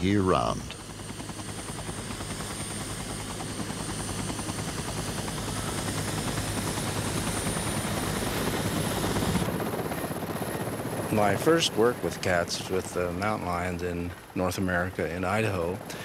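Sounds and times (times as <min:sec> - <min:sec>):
helicopter rotors beating: 0:00.0 - 0:16.0.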